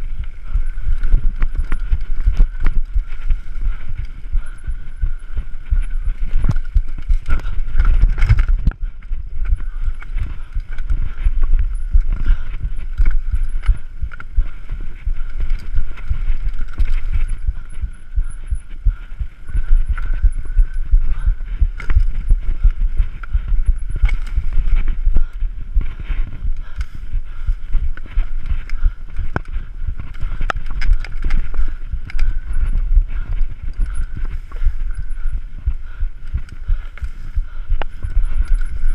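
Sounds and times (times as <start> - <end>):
heavy low rumble: 0.0 - 38.9.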